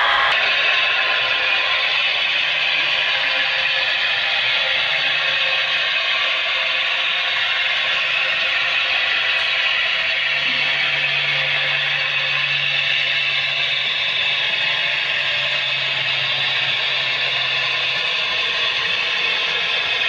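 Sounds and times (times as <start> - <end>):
model train running: 0.0 - 20.0.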